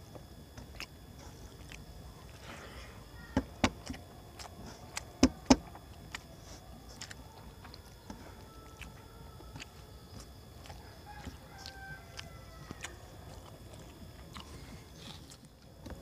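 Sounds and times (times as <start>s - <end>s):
rice light ticks: 0.0s - 16.0s.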